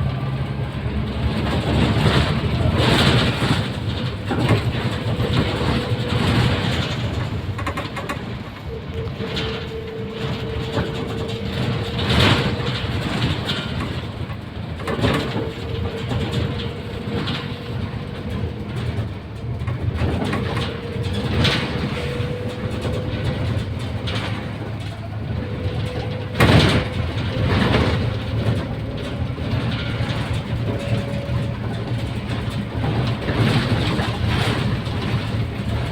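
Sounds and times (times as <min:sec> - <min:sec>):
bus low rumble: 0:00.0 - 0:35.9
sharp knocks and rattles: 0:00.7 - 0:35.9.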